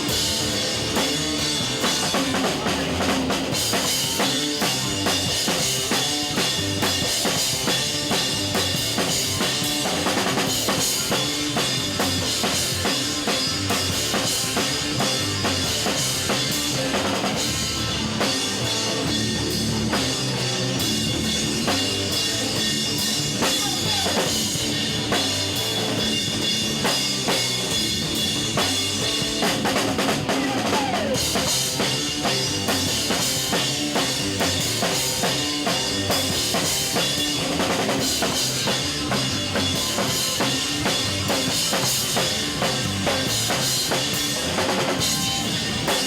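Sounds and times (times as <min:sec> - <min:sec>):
rock band playing live: 0:00.0 - 0:46.0.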